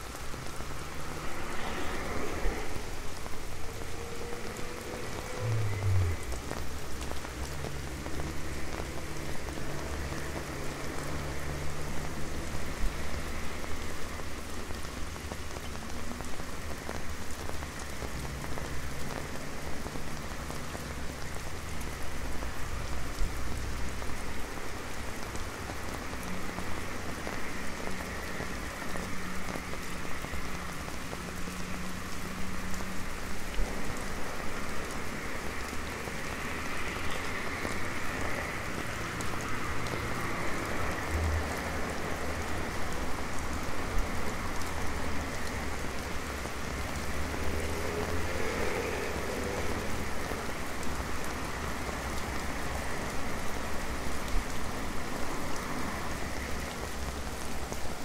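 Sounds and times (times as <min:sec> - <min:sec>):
rain pattering on an umbrella: 0:00.0 - 0:58.0
street traffic hum: 0:00.0 - 0:58.0.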